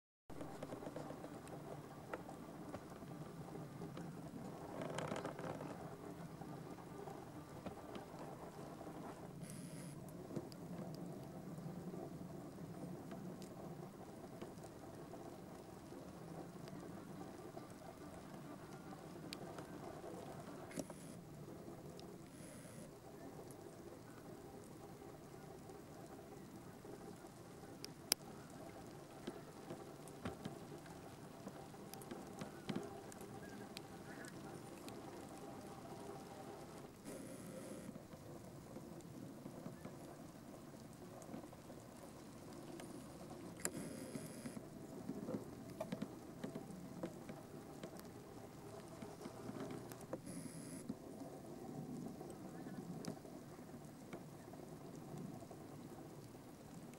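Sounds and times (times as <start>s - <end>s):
faint outdoor background hiss: 0.3s - 56.9s.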